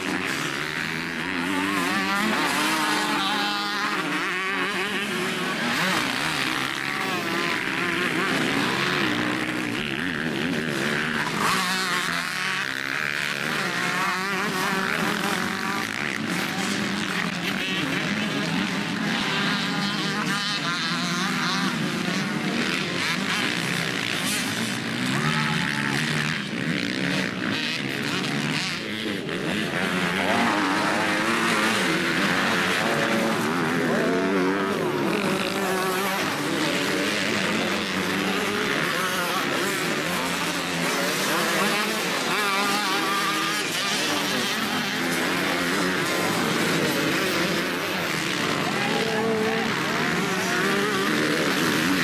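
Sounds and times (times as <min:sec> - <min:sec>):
motocross bike engines revving: 0:00.0 - 0:52.0.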